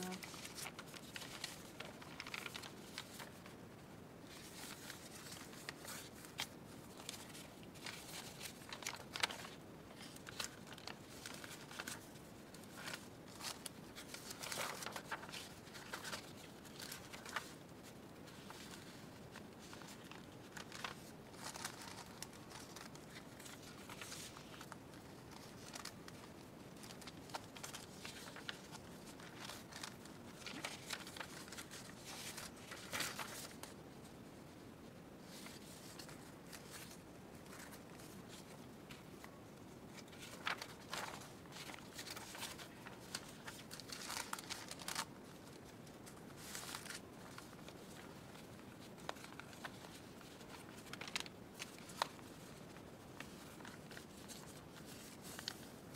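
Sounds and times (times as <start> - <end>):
paper sheets rustling: 0.0 - 34.6, 35.2 - 55.9.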